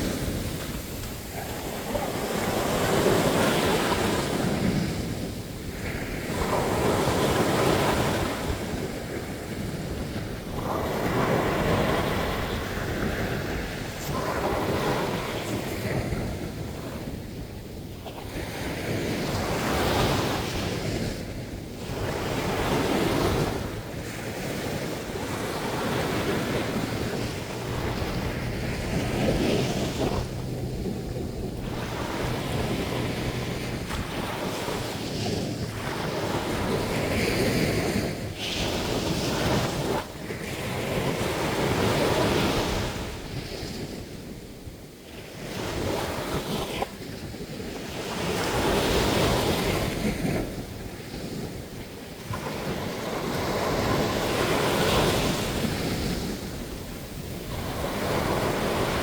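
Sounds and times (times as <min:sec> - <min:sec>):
surf breaking on a beach: 0:00.0 - 0:59.0
wind buffeting microphone: 0:00.0 - 0:59.0.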